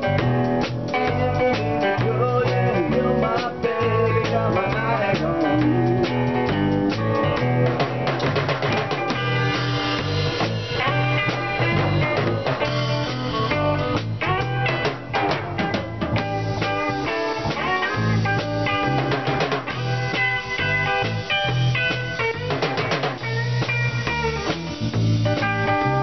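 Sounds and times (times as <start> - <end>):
drum kit beat: 0.0 - 26.0
electric guitar lead lines: 0.0 - 26.0.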